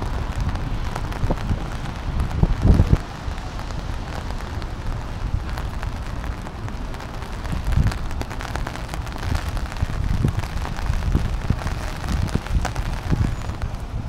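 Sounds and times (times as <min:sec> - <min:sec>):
rain drops pattering: 0:00.0 - 0:14.0
wind buffeting microphone: 0:00.0 - 0:14.0.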